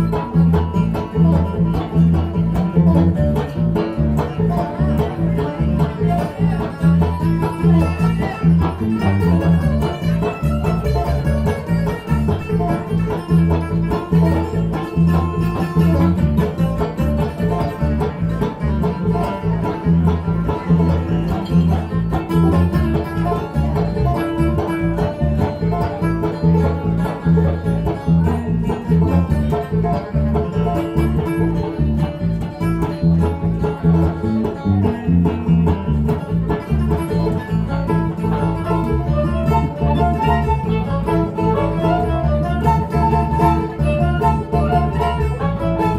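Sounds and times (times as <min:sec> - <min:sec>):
banjo picking: 0:00.0 - 0:45.9
fiddle: 0:00.0 - 0:45.9
guitar picking: 0:00.0 - 0:45.9.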